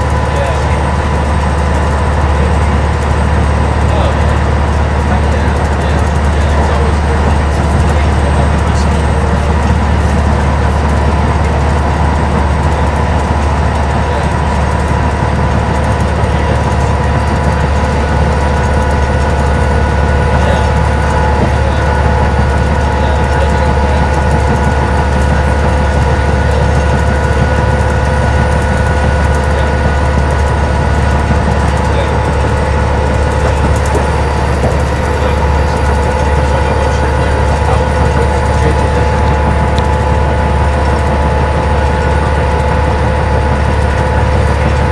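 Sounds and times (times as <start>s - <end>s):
diesel bus engine droning: 0.0s - 44.9s
road noise: 0.0s - 44.9s
steady whine: 0.0s - 44.9s.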